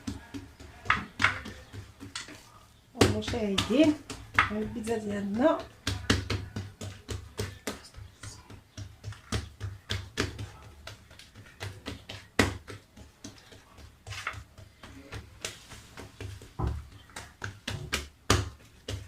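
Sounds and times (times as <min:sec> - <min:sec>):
hands tapping pizza dough: 0:00.0 - 0:19.0.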